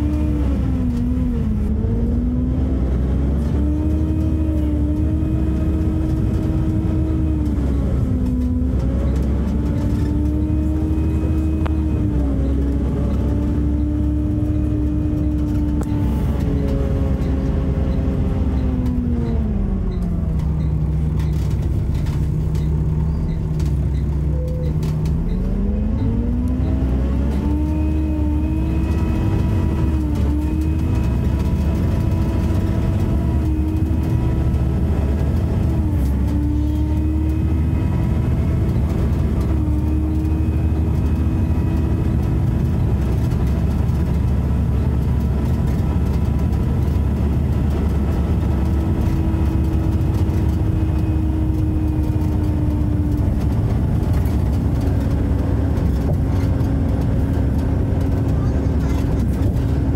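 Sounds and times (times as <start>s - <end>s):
bus engine deep rumble: 0.0s - 59.9s
engine whine: 0.0s - 59.9s.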